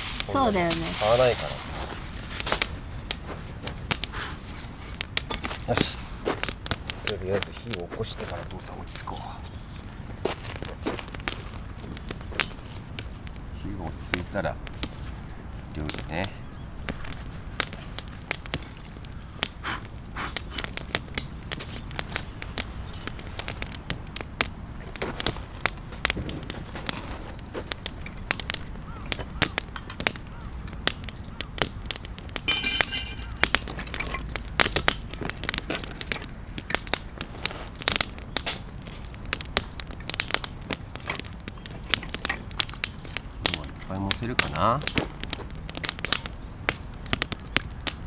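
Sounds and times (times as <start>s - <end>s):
campfire crackling and popping: 0.0s - 48.0s
fire hissing: 0.0s - 48.0s.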